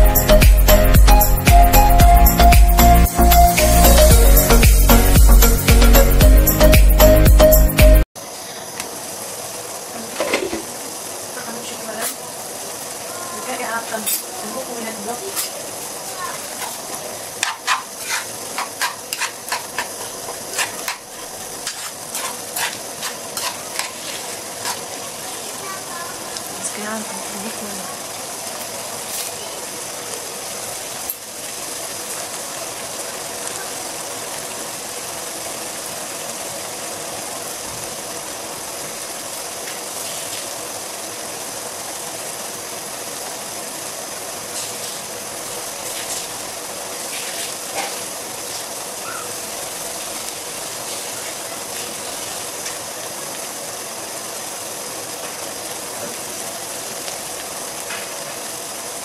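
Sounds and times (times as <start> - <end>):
food sizzling in a frying pan: 8.2 - 59.0.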